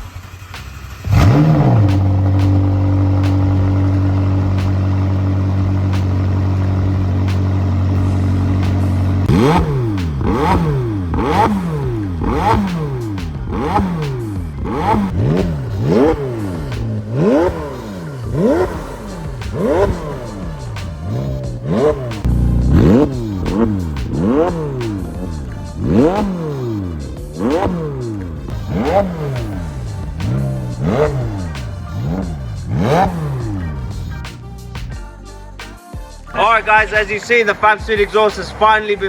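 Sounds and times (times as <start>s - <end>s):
sports car engine idling and revving: 0.0s - 39.0s.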